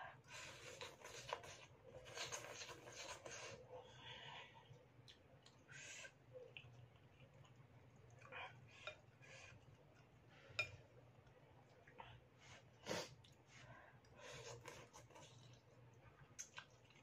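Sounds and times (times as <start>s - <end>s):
soft eating sounds: 0.0s - 17.0s.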